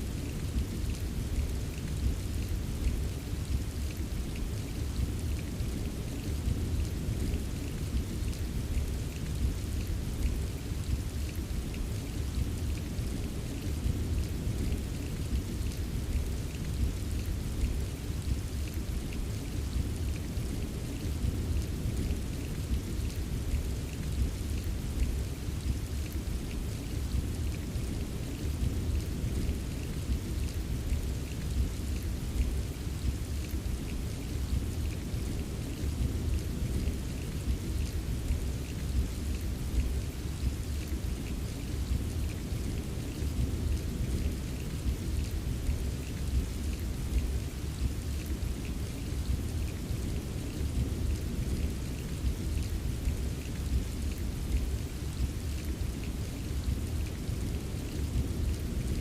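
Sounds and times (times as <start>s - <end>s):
steady rain: 0.0s - 59.0s
raindrops ticking: 0.2s - 59.0s.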